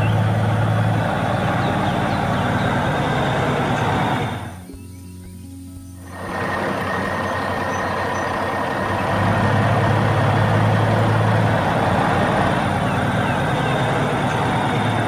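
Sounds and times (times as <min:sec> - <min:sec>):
cartoon truck engine rumble: 0:00.0 - 0:04.9, 0:05.8 - 0:15.0
deep hum: 0:00.0 - 0:15.0.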